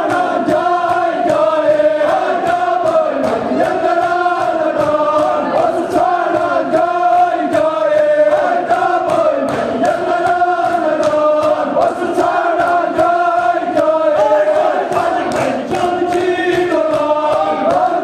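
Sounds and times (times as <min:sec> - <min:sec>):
men chanting a lament: 0:00.0 - 0:18.0
rhythmic chest-beating hand slaps: 0:00.0 - 0:18.0.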